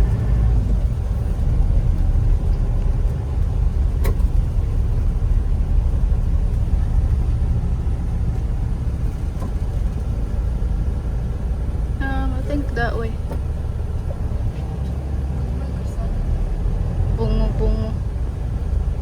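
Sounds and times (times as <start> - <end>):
road vehicle rumble: 0.0 - 19.0.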